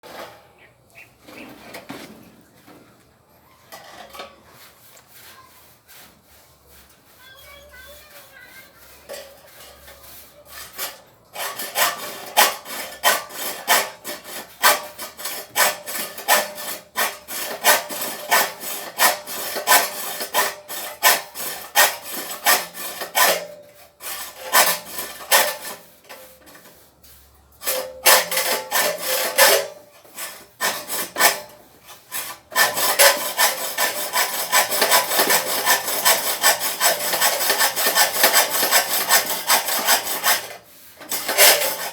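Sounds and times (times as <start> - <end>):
hand tool scraping wood: 0.0 - 41.9.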